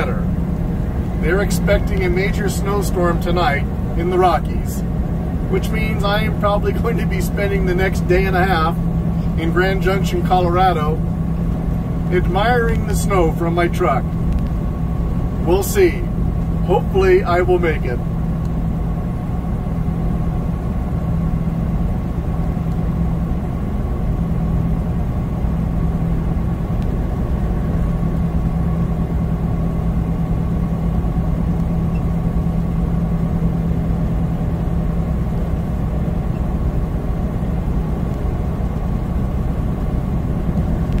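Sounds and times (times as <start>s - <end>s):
truck engine and tyre hum: 0.0s - 41.0s.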